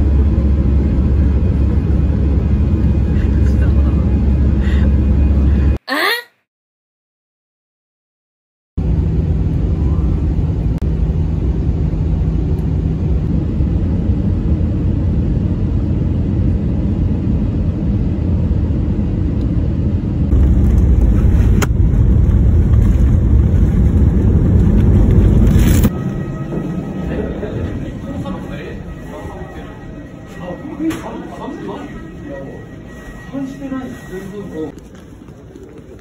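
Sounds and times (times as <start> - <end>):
airliner cabin engine rumble: 0.0 - 5.8, 8.8 - 36.0
plane rolling on runway: 0.0 - 5.8, 8.8 - 36.0.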